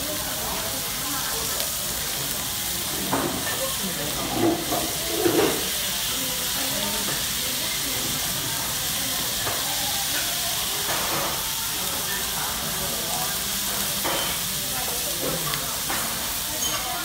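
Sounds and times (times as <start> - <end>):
meat sizzling on a grill plate: 0.0 - 17.0.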